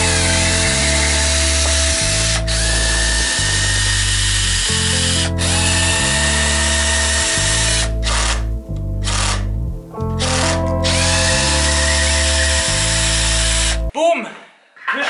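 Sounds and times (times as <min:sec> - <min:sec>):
cordless drill running: 0:00.0 - 0:08.4, 0:09.0 - 0:09.5, 0:10.2 - 0:13.8
background music: 0:00.0 - 0:14.0.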